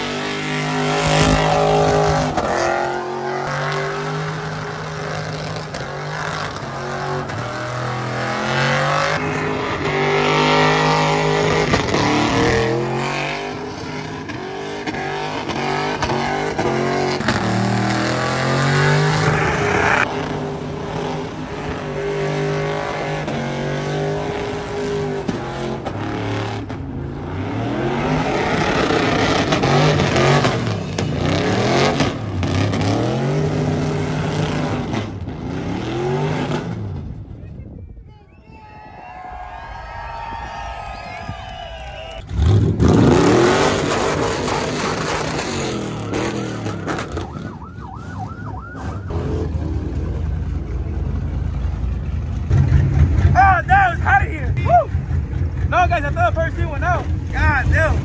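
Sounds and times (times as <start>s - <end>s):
truck engine revving: 0.0s - 37.2s, 40.5s - 58.0s.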